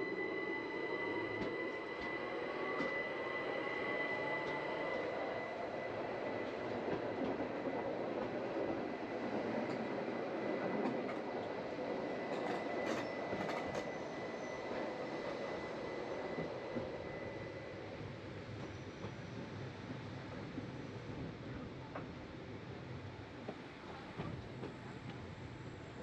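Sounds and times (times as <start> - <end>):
train wheels rumbling on rails: 0.0 - 25.5.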